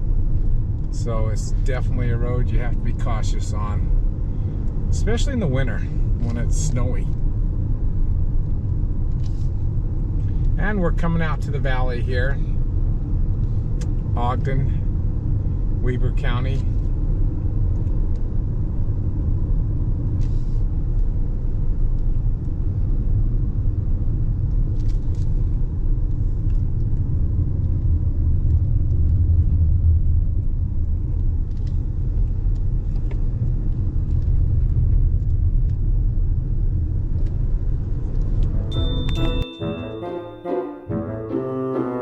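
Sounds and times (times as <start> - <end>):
car road and engine rumble: 0.0 - 39.5.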